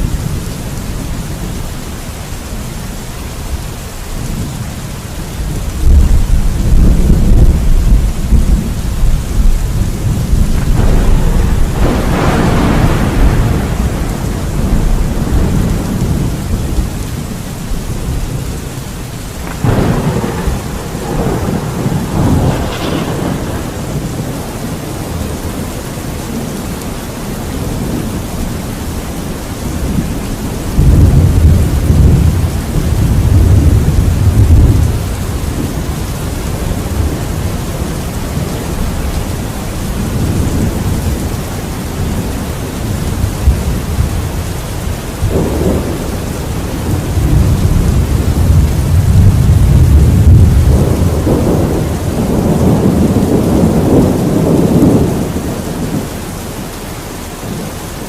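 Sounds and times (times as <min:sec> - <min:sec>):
steady rain: 0:00.0 - 0:58.0
rolling thunder: 0:05.4 - 0:26.8, 0:27.4 - 0:56.4.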